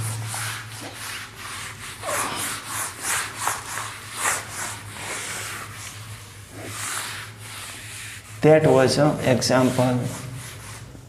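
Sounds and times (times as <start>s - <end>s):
eraser swishing on whiteboard: 0.0s - 8.6s, 9.3s - 11.0s
low electrical hum: 0.0s - 11.0s.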